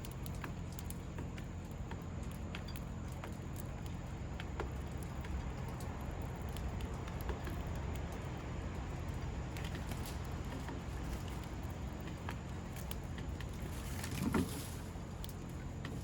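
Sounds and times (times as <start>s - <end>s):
light ticks and taps: 0.0s - 16.0s
low background rumble: 0.0s - 16.0s.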